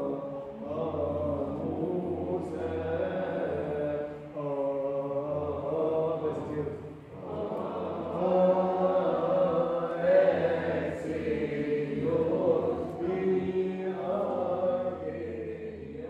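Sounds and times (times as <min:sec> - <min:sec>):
slow vocal chanting: 0:00.0 - 0:16.0.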